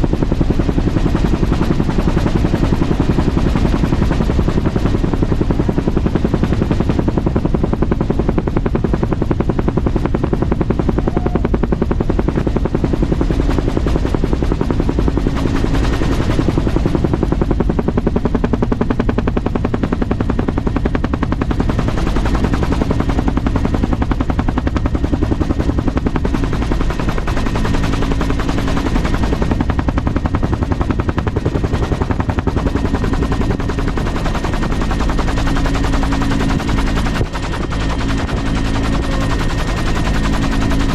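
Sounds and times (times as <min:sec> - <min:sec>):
aircraft rotor chopping: 0:00.0 - 0:40.9.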